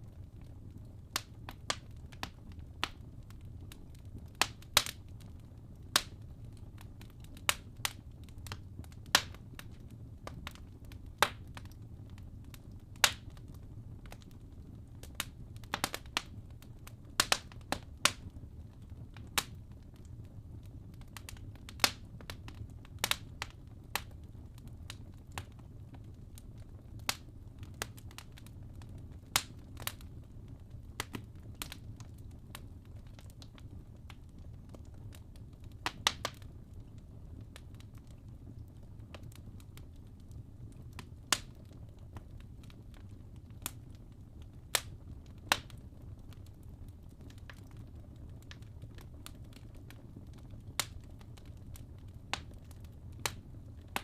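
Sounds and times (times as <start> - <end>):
fire crackles and pops: 0.0 - 54.0
low rumble of flames: 0.0 - 54.0.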